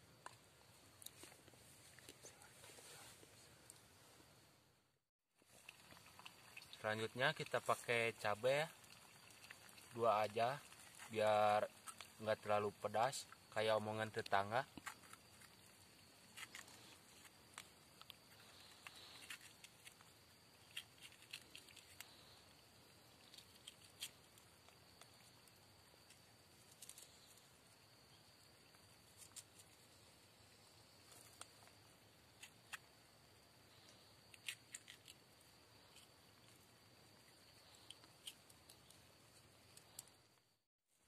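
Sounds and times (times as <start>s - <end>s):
faint steady hiss: 0.0s - 41.0s.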